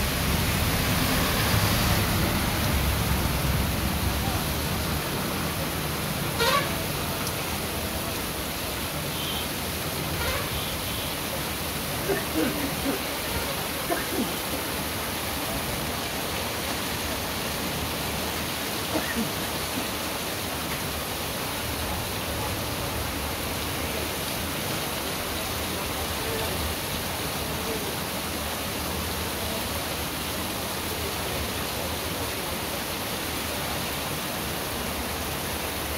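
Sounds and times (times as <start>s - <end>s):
heavy rain on wet street: 0.0s - 35.9s.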